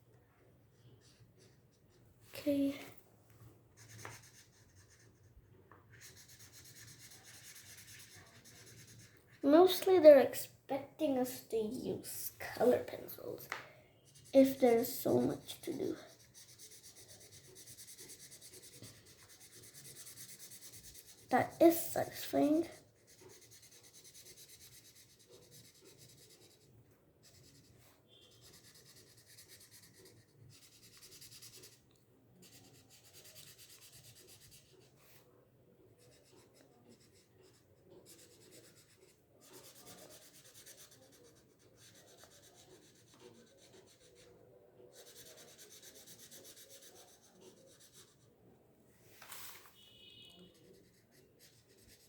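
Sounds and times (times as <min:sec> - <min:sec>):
marker scratching on paper: 0:00.7 - 0:01.7, 0:03.8 - 0:31.8, 0:32.4 - 0:35.2, 0:36.0 - 0:48.2, 0:49.2 - 0:52.0.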